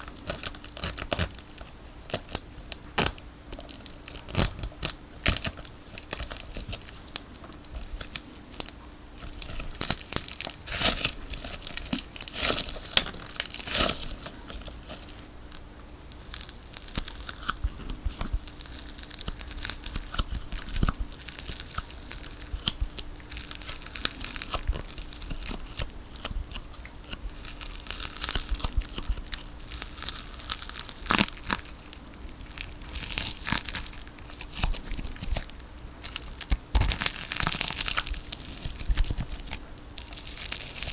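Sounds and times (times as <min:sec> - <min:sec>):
faint steady hum: 0:00.0 - 0:40.9
tape crackling and tearing: 0:00.0 - 0:40.9.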